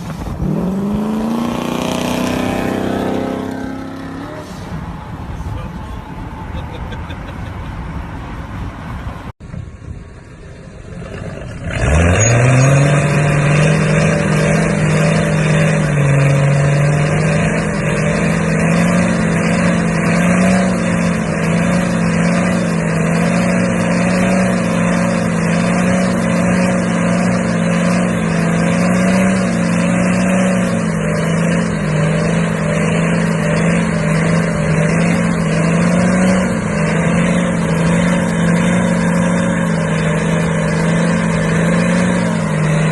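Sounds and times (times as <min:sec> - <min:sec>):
truck engine revving: 0:00.0 - 0:09.3, 0:10.7 - 0:42.9.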